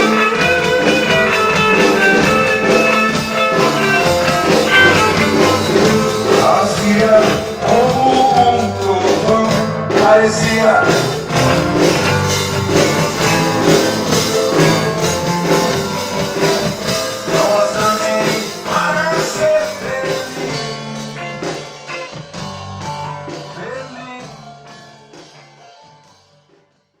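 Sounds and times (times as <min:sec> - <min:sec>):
person singing: 0:00.0 - 0:21.5, 0:23.4 - 0:24.7
steady drum beat: 0:00.0 - 0:25.0
rock band playing: 0:00.0 - 0:26.6.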